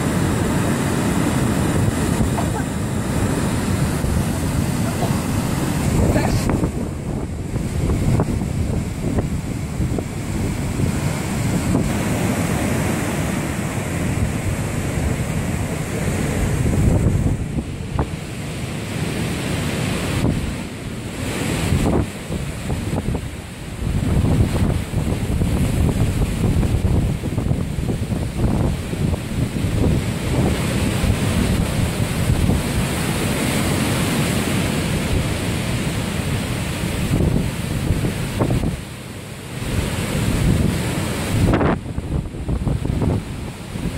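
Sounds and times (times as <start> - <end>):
wind buffeting microphone: 0.0 - 18.3, 19.9 - 43.9
heavy surf breaking: 0.0 - 43.9.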